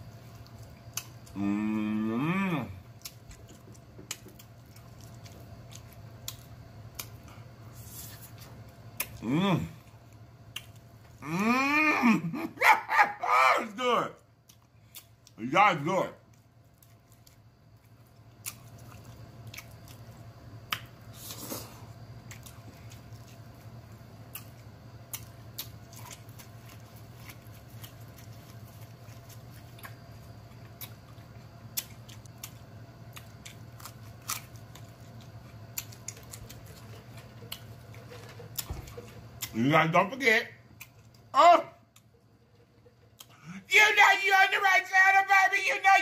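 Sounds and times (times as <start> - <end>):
person chewing food: 0.0 - 11.3, 14.4 - 15.4, 16.3 - 39.6, 40.7 - 41.3, 41.9 - 43.4
faint low hum: 0.0 - 46.0.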